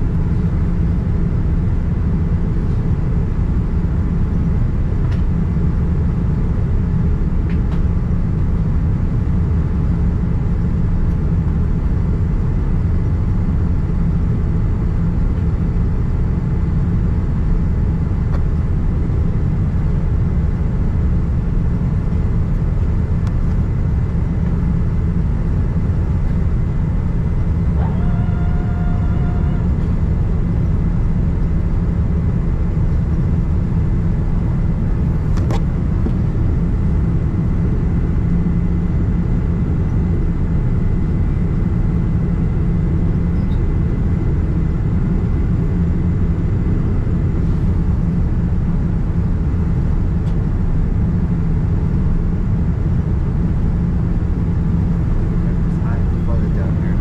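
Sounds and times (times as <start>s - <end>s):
airflow and engines roaring: 0.0s - 57.0s.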